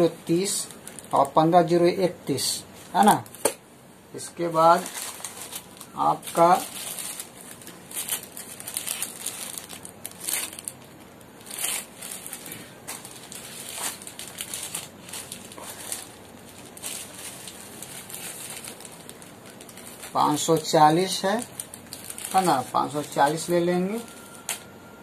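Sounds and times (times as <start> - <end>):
plastic packets crinkling: 0.3 - 1.8, 4.4 - 24.7.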